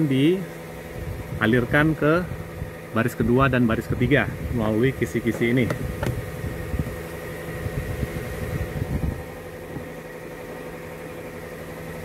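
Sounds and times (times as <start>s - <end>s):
air circulator fan hum: 0.0s - 12.0s
car engine idling: 0.0s - 12.0s.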